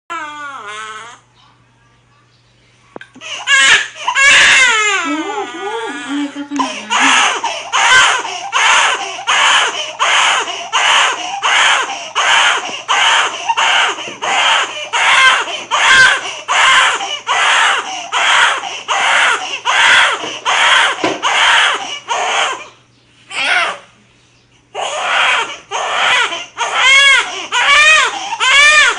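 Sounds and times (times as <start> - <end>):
newborn baby crying: 0.1 - 1.3, 3.2 - 24.0, 24.7 - 28.9.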